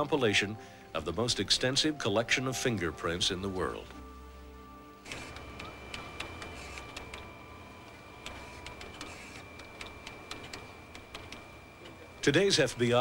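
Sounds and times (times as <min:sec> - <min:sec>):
machine high whine: 0:00.0 - 0:13.0.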